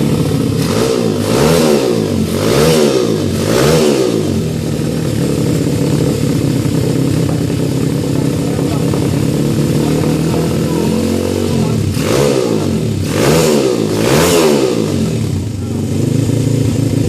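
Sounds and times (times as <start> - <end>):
motorbike engine revving and idling: 0.0 - 17.0.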